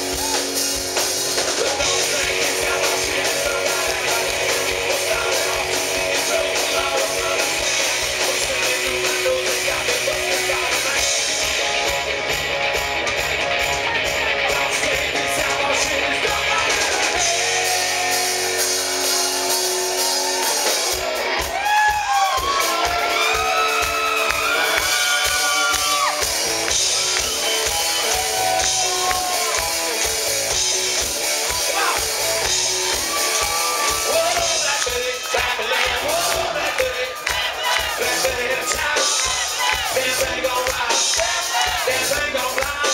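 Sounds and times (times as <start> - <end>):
drums: 0.0 - 42.9
electric guitars: 0.0 - 42.9.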